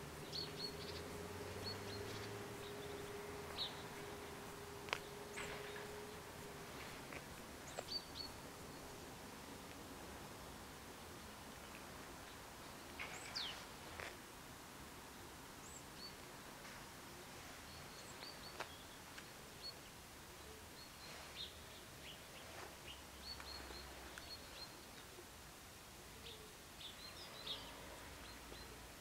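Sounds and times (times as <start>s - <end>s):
small birds chirping: 0.0s - 9.8s, 11.5s - 14.2s, 15.6s - 29.0s
faint background noise: 0.0s - 29.0s.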